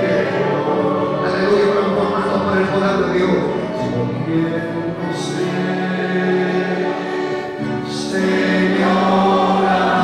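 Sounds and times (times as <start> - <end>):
voices singing a hymn: 0.0 - 10.0.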